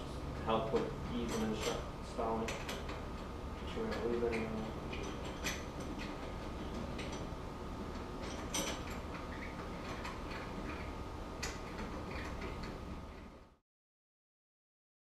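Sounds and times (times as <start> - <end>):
low background hum: 0.0 - 13.6.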